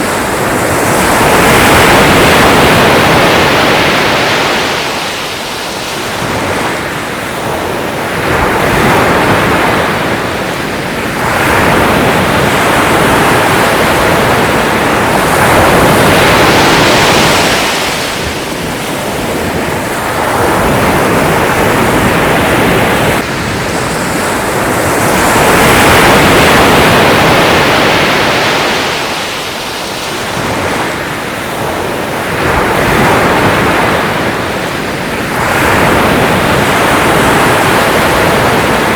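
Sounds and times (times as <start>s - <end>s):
sea waves breaking ashore: 0.0s - 38.9s.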